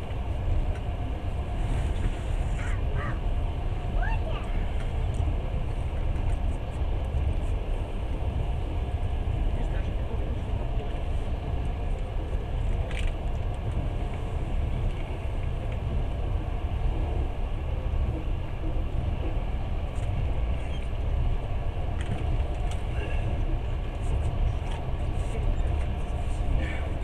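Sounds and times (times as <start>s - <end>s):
train running gear rumbling on track: 0.0s - 27.0s.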